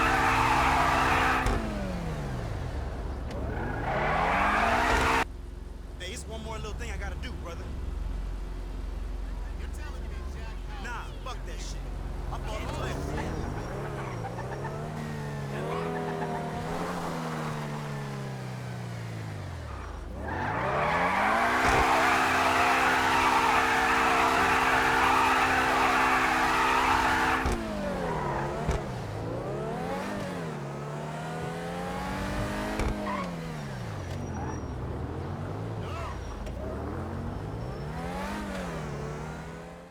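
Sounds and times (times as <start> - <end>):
car engine revving: 0.0 - 5.3, 11.8 - 39.9.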